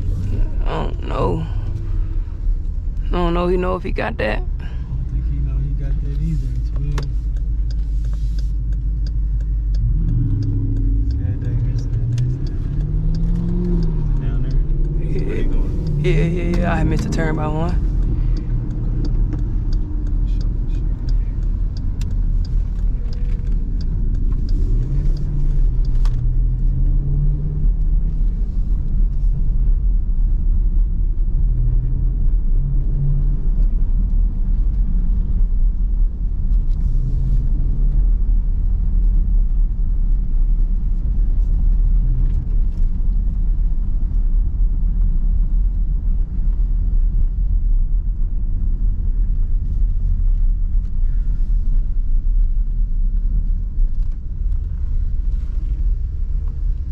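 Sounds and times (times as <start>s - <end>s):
car engine: 0.0s - 56.9s
road rumble: 0.0s - 56.9s.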